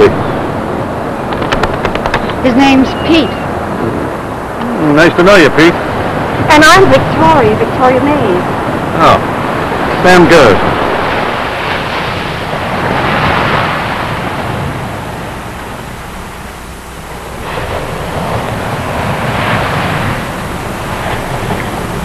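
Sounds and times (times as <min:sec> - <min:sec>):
ocean surf washing in: 0:00.0 - 0:22.0.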